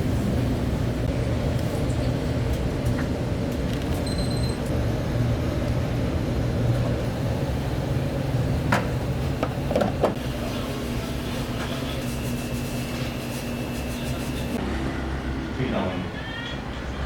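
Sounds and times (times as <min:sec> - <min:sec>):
low mechanical hum and rumble: 0:00.0 - 0:17.0.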